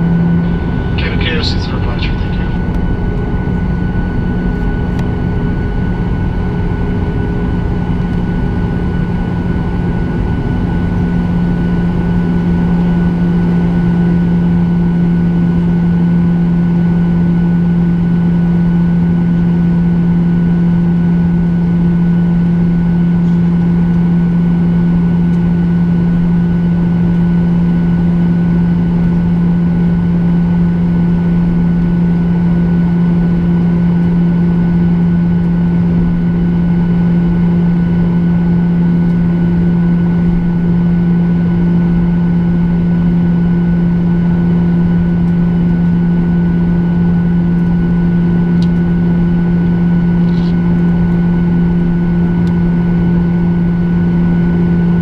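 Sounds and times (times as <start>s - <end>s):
faint high engine whine: 0.0s - 55.0s
jet engines droning: 0.0s - 55.0s.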